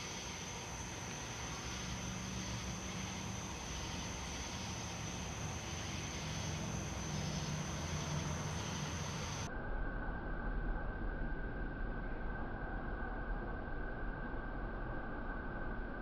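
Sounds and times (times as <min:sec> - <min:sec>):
constant high-pitched tone: 0:00.0 - 0:16.0
low hum: 0:00.0 - 0:16.0.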